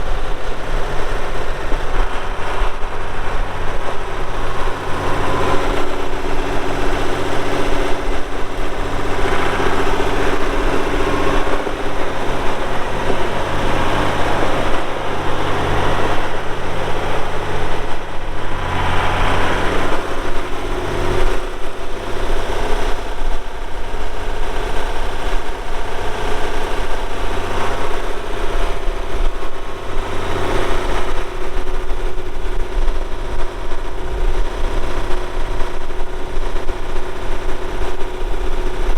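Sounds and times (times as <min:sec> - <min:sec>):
diesel tractor engine revving: 0:00.0 - 0:38.9.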